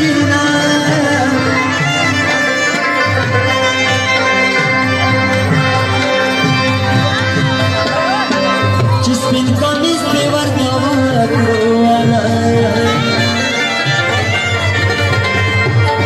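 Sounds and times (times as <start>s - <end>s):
reedy melody over loudspeakers: 0.0s - 16.0s.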